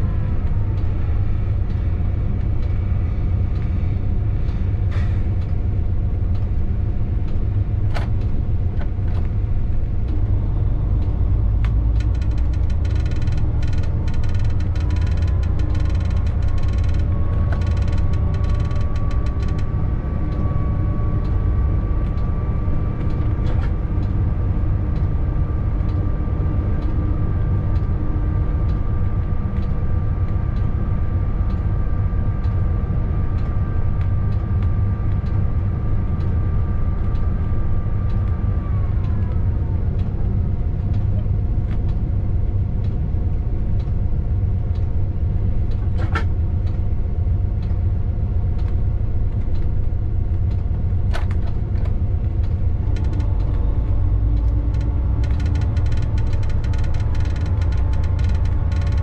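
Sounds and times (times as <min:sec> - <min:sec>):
high whine: 0:00.0 - 0:59.0
locomotive low rumble: 0:00.0 - 0:59.0.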